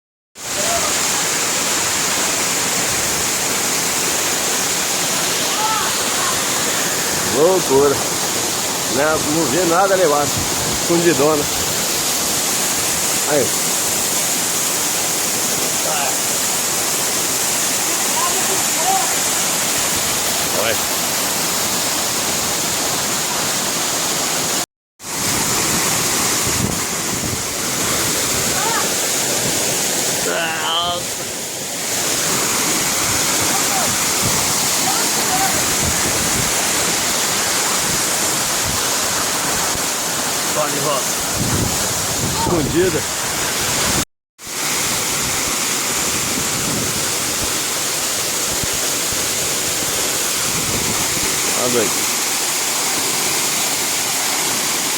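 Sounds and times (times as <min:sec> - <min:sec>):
waterfall rushing: 0:00.4 - 0:54.9.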